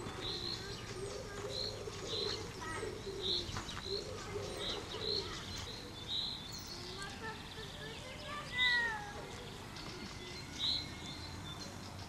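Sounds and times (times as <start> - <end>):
bird cooing: 0.0 - 7.9, 9.1 - 11.0.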